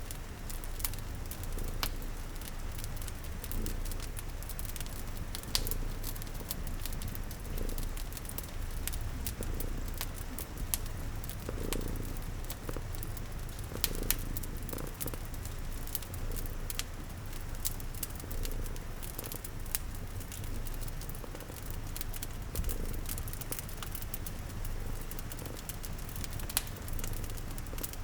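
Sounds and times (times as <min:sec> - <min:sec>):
cat purring: 0:00.0 - 0:28.0
fire crackling: 0:00.0 - 0:28.0
rain pattering: 0:00.0 - 0:28.0.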